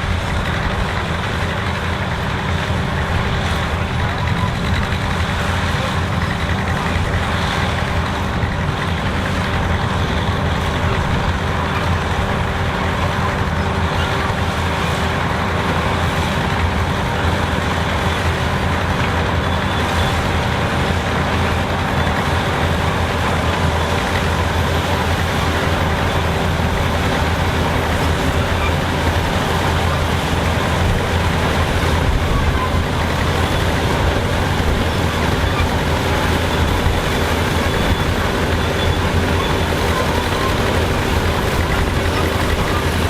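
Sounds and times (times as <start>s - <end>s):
tractor engine droning: 0.0s - 43.0s.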